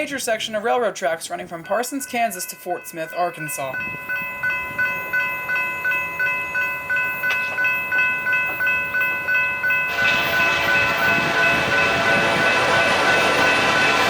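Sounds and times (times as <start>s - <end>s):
railroad crossing bell ringing: 1.2s - 14.0s
freight train passing: 2.0s - 14.0s.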